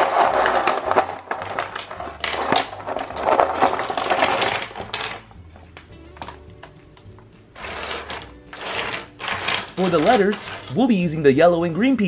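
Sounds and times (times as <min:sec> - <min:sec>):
plastic pieces clattering: 0:00.0 - 0:06.7, 0:07.6 - 0:11.1.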